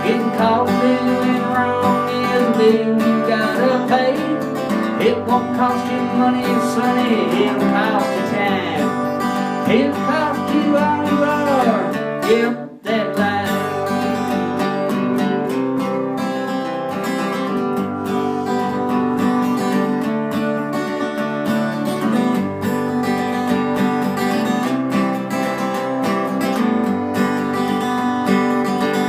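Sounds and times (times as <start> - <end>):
acoustic guitar bluegrass rhythm: 0.0 - 29.0.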